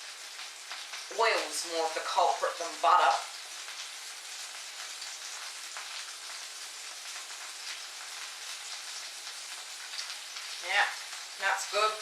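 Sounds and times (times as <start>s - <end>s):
sausages sizzling in a pan: 0.0s - 12.0s.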